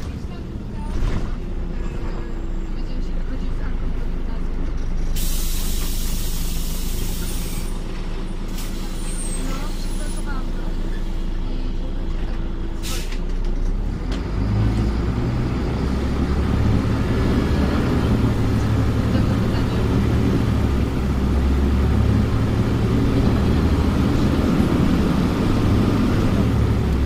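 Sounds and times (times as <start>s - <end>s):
bus diesel engine idling: 0.0s - 27.0s.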